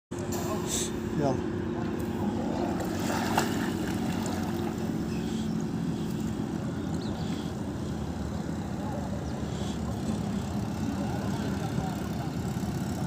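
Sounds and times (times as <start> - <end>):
boat motor running: 0.1 - 13.0.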